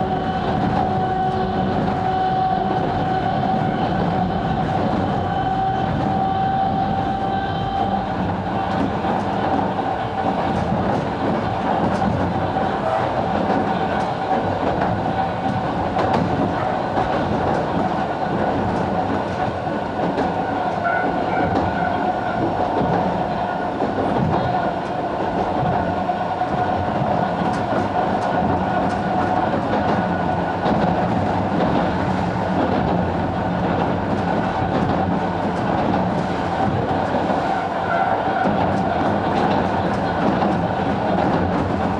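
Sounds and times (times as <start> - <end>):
electric train whine: 0.0 - 41.9
train wheels clattering on rails: 0.0 - 41.9.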